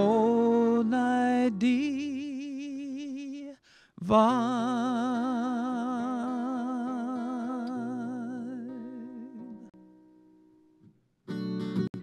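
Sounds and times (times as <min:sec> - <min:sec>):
man singing with vibrato: 0:00.0 - 0:09.8
soft acoustic guitar: 0:00.0 - 0:12.0.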